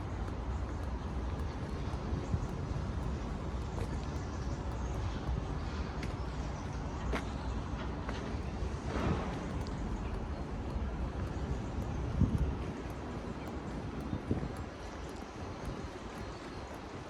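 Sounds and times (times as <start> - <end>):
light clicks: 0.0 - 17.0
wind buffeting microphone: 0.0 - 17.0.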